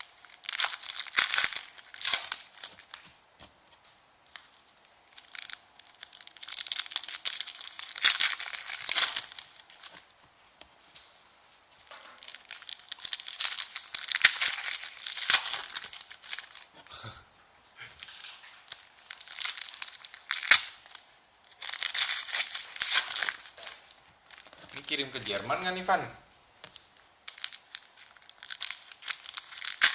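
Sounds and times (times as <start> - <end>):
foil wrappers crinkling and tearing: 0.0 - 3.1, 4.3 - 10.2, 11.8 - 17.0, 17.8 - 26.0, 26.6 - 29.9.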